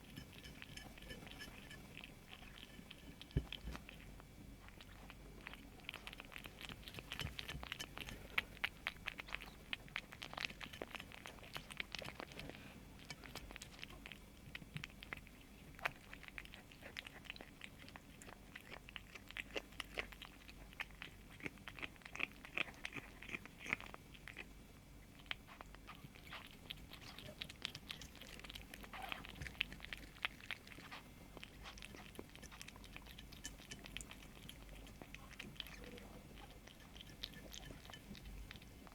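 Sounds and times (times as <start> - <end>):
kitten crunching food: 0.0 - 38.9.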